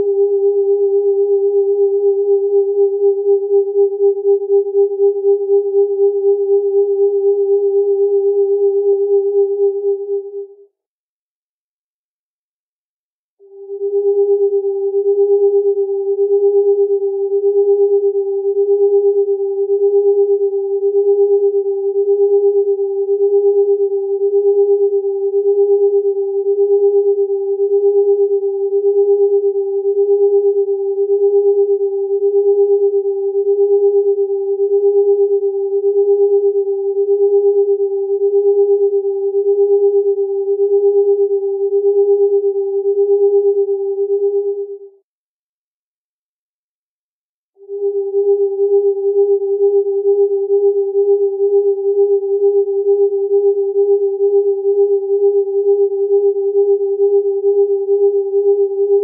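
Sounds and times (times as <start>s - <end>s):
beating electronic sine tones: 0.0s - 10.5s, 13.5s - 44.8s, 47.6s - 59.0s.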